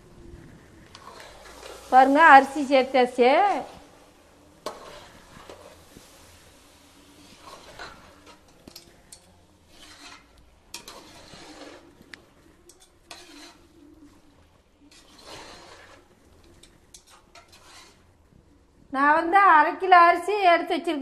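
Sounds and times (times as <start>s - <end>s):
rice scraping against pot: 0.4s - 18.2s.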